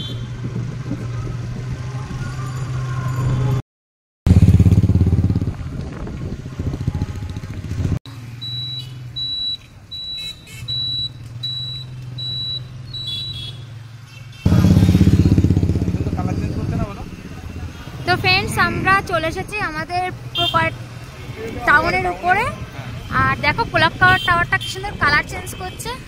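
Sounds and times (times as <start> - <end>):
road noise: 0.0 - 3.6, 4.3 - 26.0
vehicle engine hum: 0.0 - 3.6, 4.3 - 26.0.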